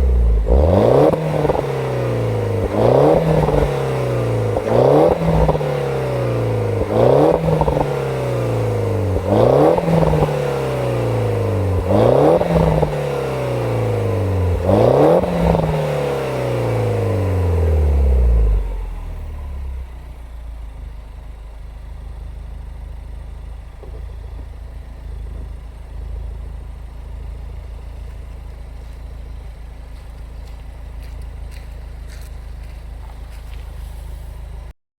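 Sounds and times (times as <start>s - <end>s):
car engine revving and idling: 0.0s - 34.8s.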